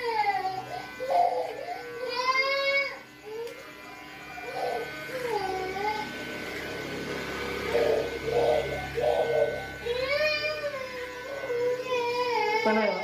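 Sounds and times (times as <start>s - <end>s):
small child crying: 0.0s - 3.6s, 4.4s - 6.1s, 7.7s - 13.0s
electric hair clippers buzzing: 0.0s - 13.0s.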